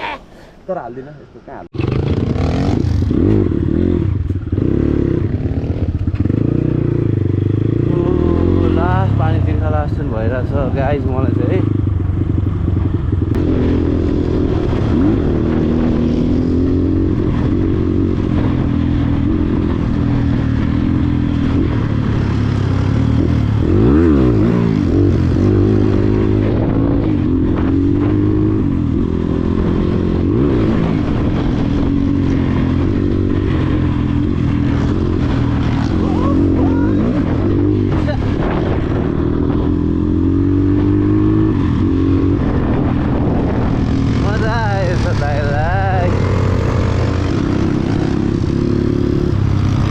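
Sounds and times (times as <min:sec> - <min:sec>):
dirt bike engine revving: 0:01.7 - 0:49.9.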